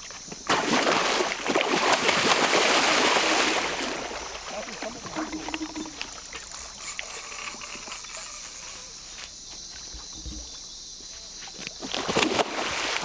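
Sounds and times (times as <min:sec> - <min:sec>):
insects shrilling: 0:01.2 - 0:13.0.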